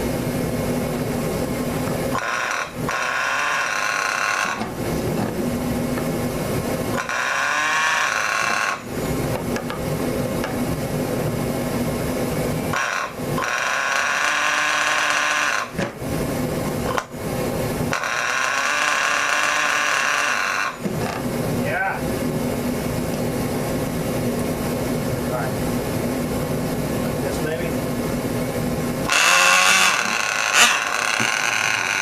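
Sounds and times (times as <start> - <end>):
electric starter whining: 0.0 - 32.0
small engine running roughly: 0.0 - 32.0.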